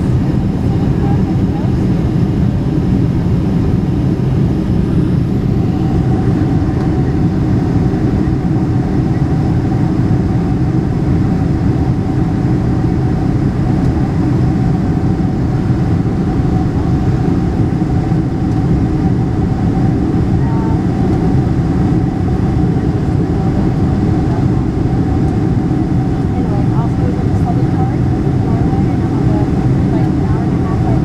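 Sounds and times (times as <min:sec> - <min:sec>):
faint steady whine: 0:00.0 - 0:31.0
jet engines droning: 0:00.0 - 0:31.0.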